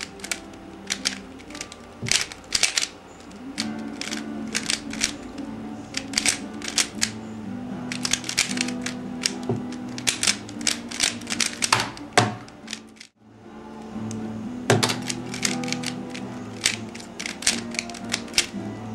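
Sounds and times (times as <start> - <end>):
puzzle cube clacking: 0.0 - 7.2, 7.8 - 13.2, 14.0 - 18.6
background music: 0.0 - 18.9.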